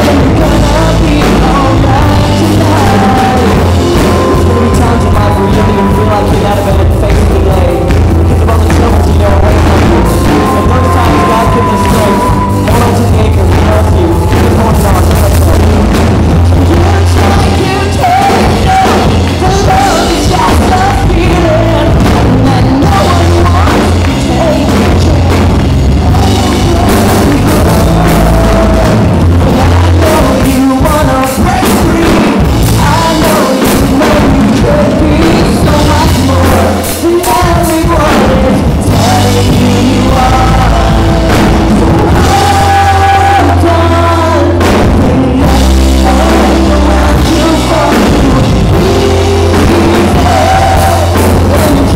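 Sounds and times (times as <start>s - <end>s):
live rock band playing: 0.0s - 51.9s
person singing: 0.0s - 51.9s.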